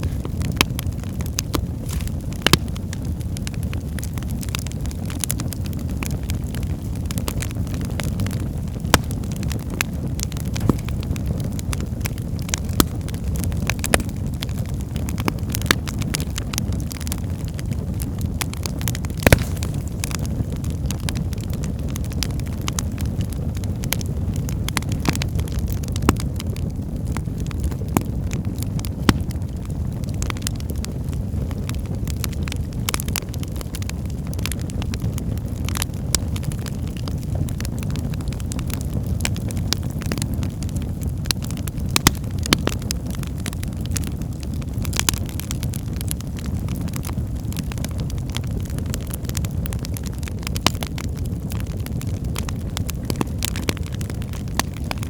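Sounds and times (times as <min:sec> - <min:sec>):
fire crackling and popping: 0:00.0 - 0:55.0
fire flames rumbling: 0:00.0 - 0:55.0.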